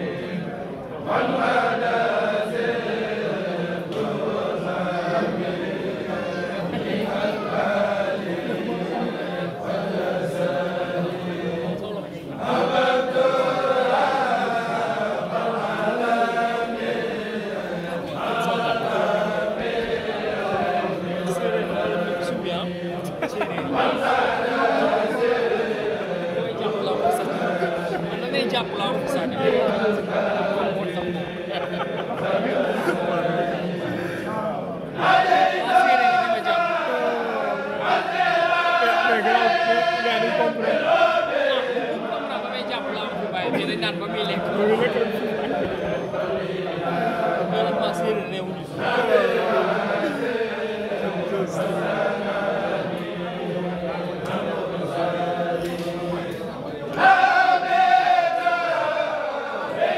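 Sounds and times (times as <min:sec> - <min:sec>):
men chanting together: 0:00.0 - 0:59.9.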